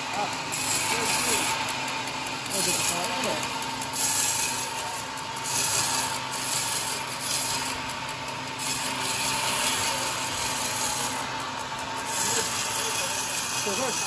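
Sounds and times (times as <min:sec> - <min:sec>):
saw blade cutting wood: 0:00.0 - 0:14.0.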